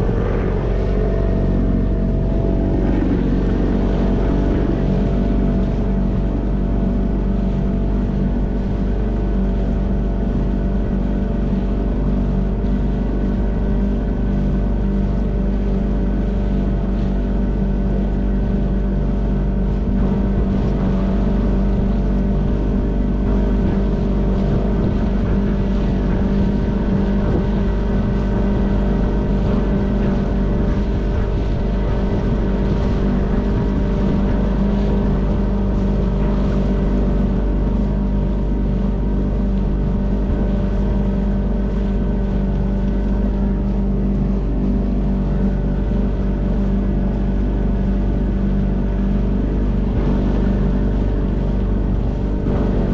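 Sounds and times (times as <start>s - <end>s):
outboard motor running: 0.0s - 52.9s
water rushing along hull: 0.0s - 52.9s.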